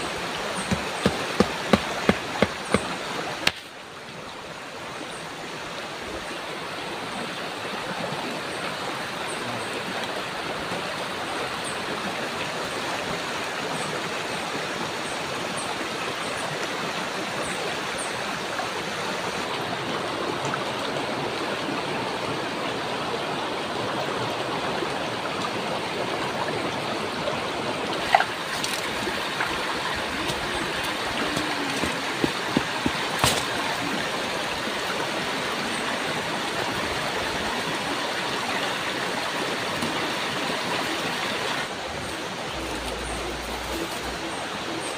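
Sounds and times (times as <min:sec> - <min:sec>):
river rushing over stones: 0:00.0 - 0:44.9.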